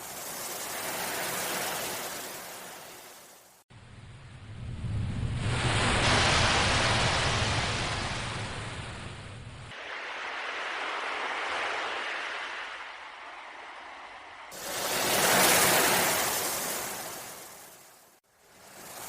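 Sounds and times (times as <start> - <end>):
sea waves washing in: 0.0 - 3.6, 4.4 - 19.0.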